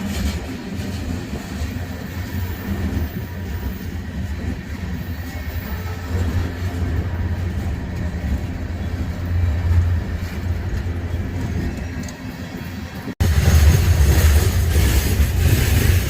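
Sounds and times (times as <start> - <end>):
train rumbling: 0.0 - 16.0
rushing noise: 1.0 - 16.0.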